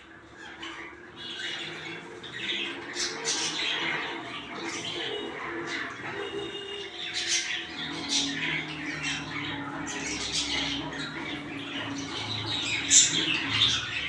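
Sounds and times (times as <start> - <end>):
sparrows squawking and chirping: 0.0 - 14.0.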